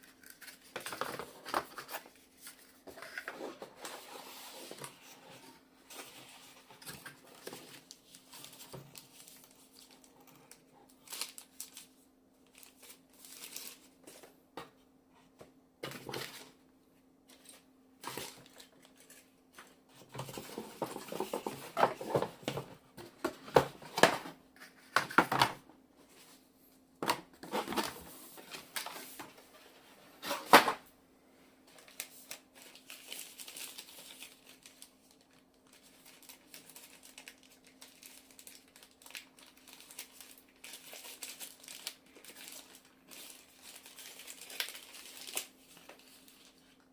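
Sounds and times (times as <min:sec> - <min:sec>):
packaging rustling and crinkling: 0:00.0 - 0:14.4, 0:17.3 - 0:25.4, 0:31.7 - 0:46.9.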